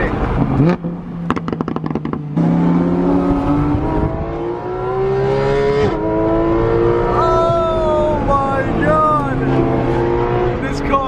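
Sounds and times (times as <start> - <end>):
sports car engine accelerating: 0.1 - 11.0.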